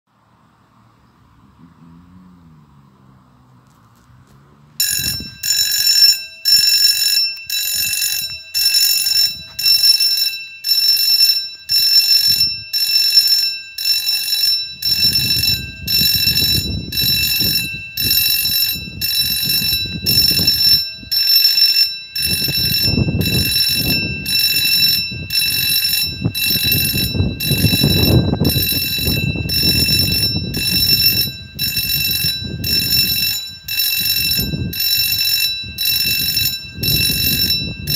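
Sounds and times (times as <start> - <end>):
level crossing bell ringing: 4.8 - 37.9.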